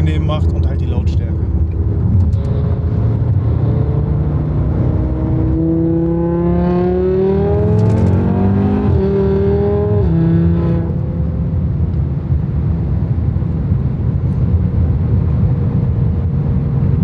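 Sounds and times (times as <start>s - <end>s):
engine and road noise rumble: 0.0s - 17.0s.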